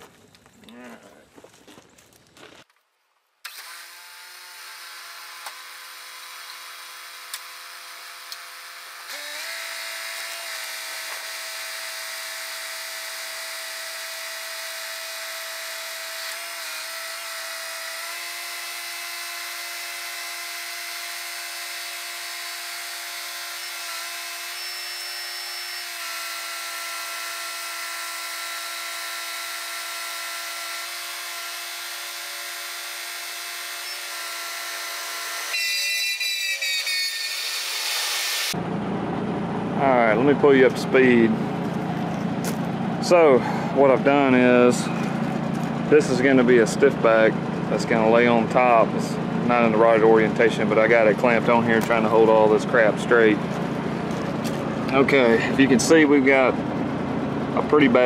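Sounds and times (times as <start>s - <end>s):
hydraulic pump whine: 3.4s - 58.0s.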